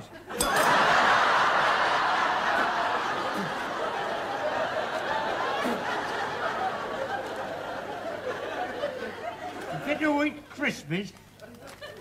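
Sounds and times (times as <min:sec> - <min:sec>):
studio audience laughing: 0:00.0 - 0:10.0, 0:11.4 - 0:12.0.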